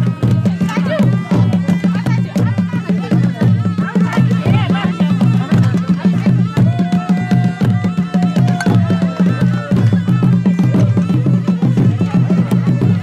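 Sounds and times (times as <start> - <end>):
fast drum rhythm: 0.0 - 13.0.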